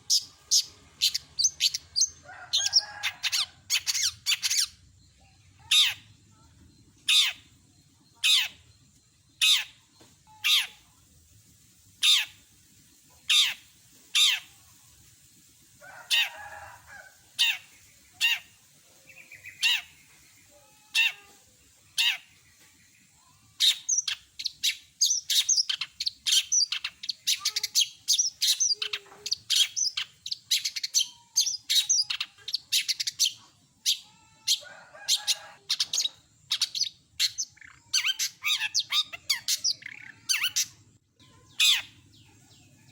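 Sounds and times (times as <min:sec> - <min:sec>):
rapid bird chatter: 0:00.0 - 0:42.9.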